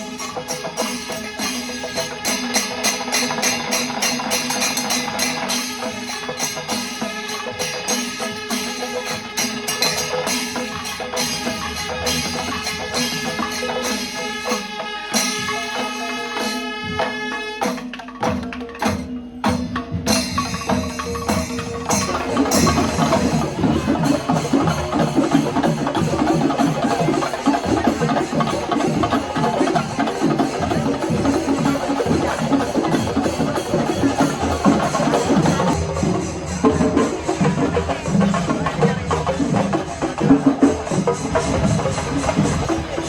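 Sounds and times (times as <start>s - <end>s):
fast ensemble drumming: 0.0s - 43.0s.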